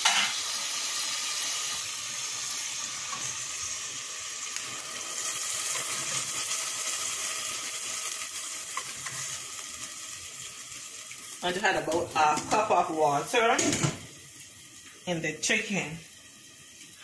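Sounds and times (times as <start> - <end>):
water poured into sizzling pot: 0.0 - 17.0.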